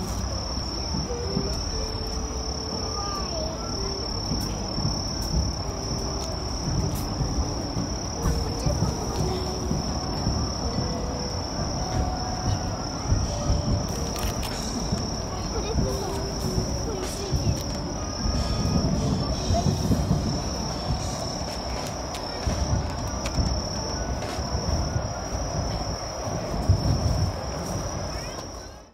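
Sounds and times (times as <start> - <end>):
low uneven rumble: 0.0 - 28.9
night insects trilling: 0.0 - 28.9.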